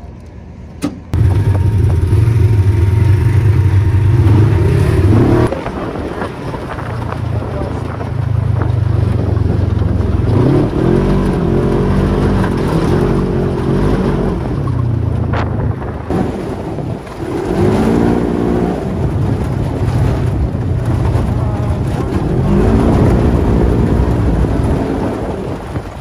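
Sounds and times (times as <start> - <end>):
engine revving: 1.1 - 5.8, 7.3 - 26.0
tyres crunching over gravel: 5.0 - 26.0.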